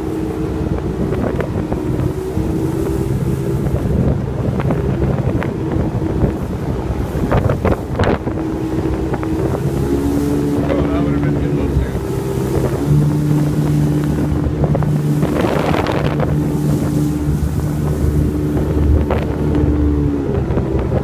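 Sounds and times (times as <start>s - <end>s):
motorboat engine running: 0.0s - 21.0s
wind buffeting microphone: 0.0s - 21.0s.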